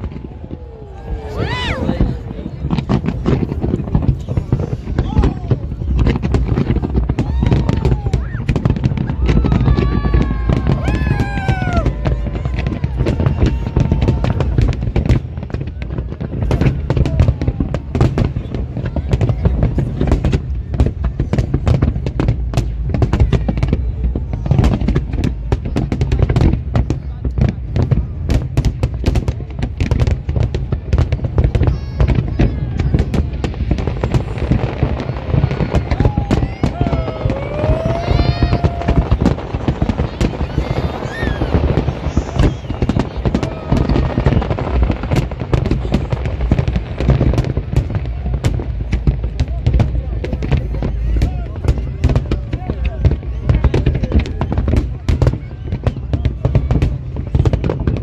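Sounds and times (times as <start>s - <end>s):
faint crowd voices: 0.0s - 58.0s
fireworks cracks and bangs: 0.0s - 58.0s
low rumble of booms: 0.0s - 58.0s.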